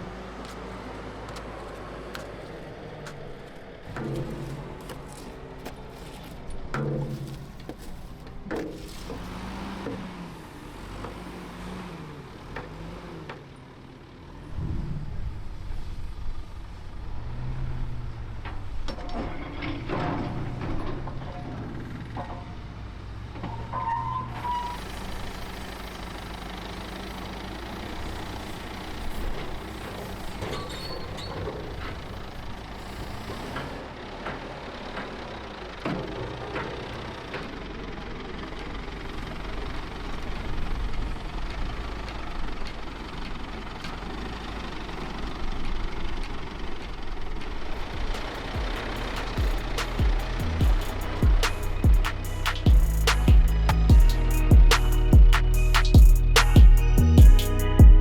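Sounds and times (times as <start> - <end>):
heavy machinery engines running: 0.0 - 58.0.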